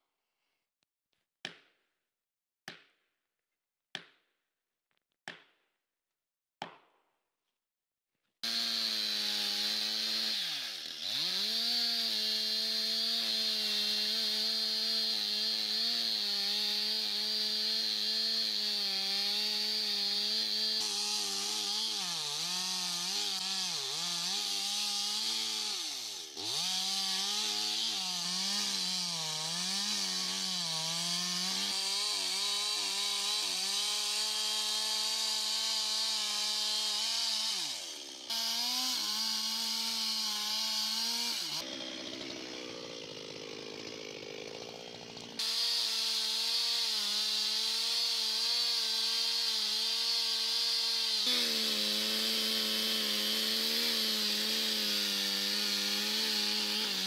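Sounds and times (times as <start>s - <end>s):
chainsaw cutting wood: 8.4s - 57.0s.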